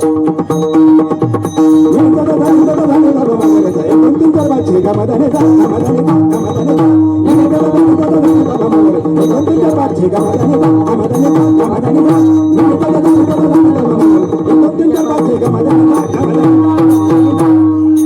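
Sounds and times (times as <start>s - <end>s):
hand drum strokes: 0.0s - 18.0s
held melodic note: 0.0s - 18.0s.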